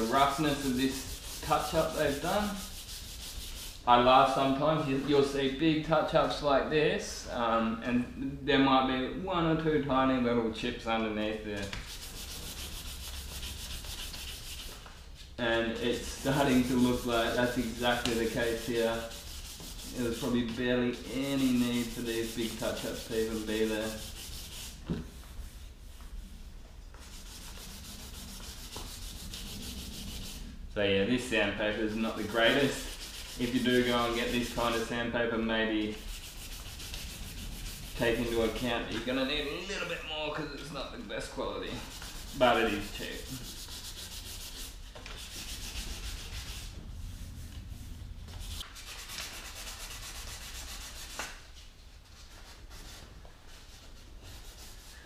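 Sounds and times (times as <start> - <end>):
hand sanding with sandpaper: 0.0 - 5.4, 11.2 - 26.2, 27.0 - 30.6, 31.2 - 55.0.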